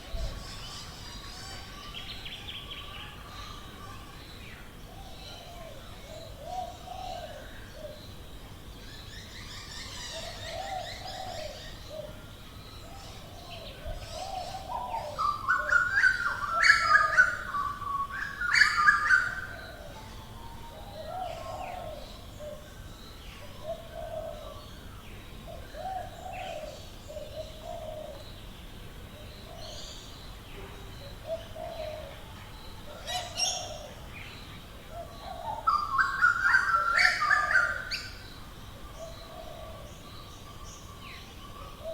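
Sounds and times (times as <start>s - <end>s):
low cooing bird call: 0.0s - 4.0s, 4.9s - 8.1s, 9.4s - 28.3s, 29.1s - 41.9s.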